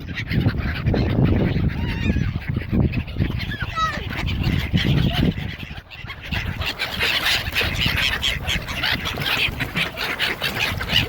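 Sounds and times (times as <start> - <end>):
water birds calling: 0.0 - 11.0.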